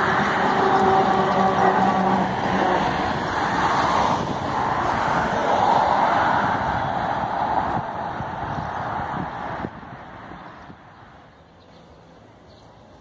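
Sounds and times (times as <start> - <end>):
cars passing: 0.0 - 13.0
trolleybus passing: 0.0 - 13.0.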